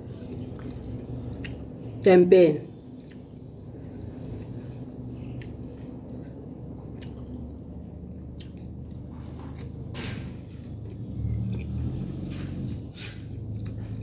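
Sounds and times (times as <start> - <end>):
person chewing food: 0.0 - 2.0, 2.8 - 14.0.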